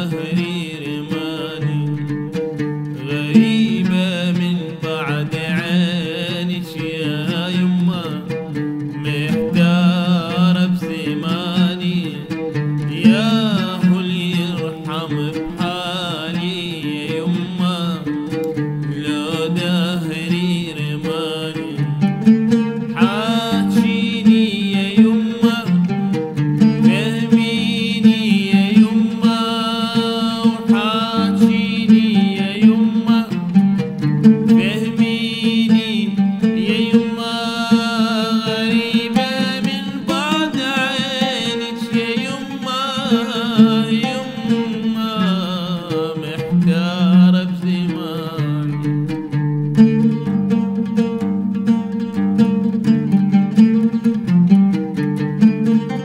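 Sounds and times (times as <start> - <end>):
man singing: 0.0 - 2.2, 2.9 - 49.2
plucked oud: 0.0 - 56.0.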